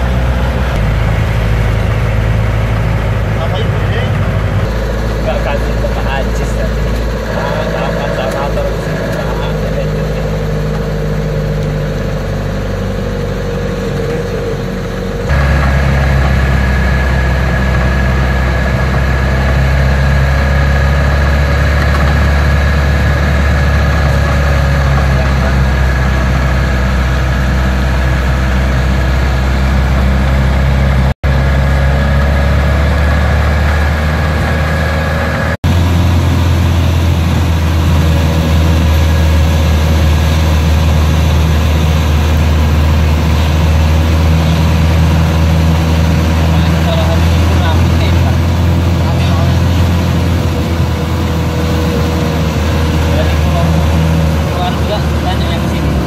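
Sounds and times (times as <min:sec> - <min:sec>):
van engine droning: 0:00.0 - 0:56.0.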